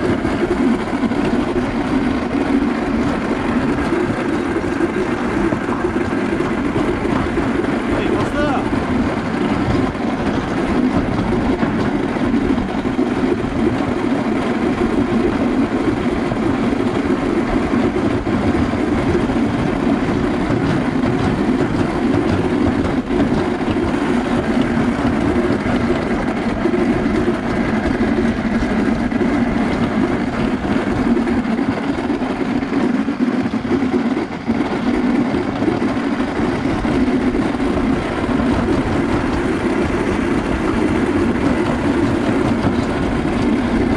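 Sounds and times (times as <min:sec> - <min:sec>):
sled rumbling on metal track: 0:00.0 - 0:43.9.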